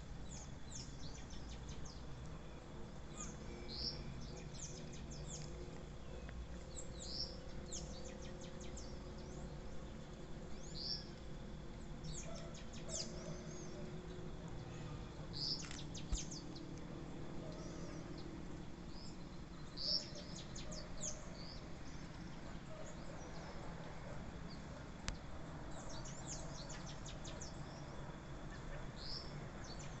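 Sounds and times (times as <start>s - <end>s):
birds chirping and twittering: 0.0s - 30.0s.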